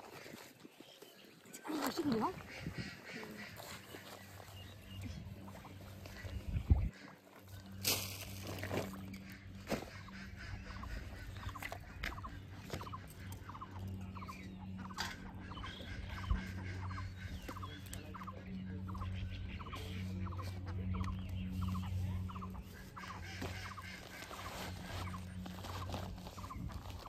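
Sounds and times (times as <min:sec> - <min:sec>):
steady low hum: 0:01.9 - 0:27.0.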